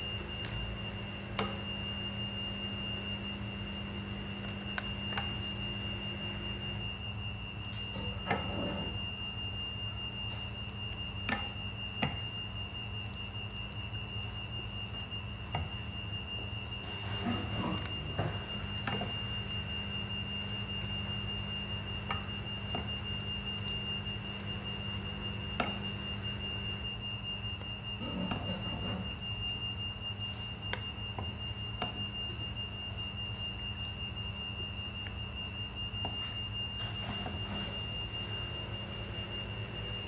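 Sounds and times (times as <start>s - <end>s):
constant high whine: 0.0s - 40.0s
steady hum: 0.0s - 40.0s.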